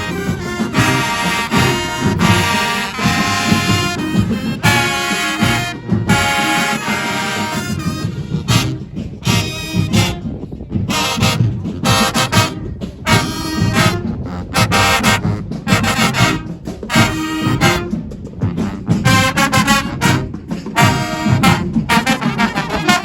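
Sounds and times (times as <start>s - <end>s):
brass and saxophones blaring: 0.0s - 23.0s
drumline pounding: 0.0s - 23.0s.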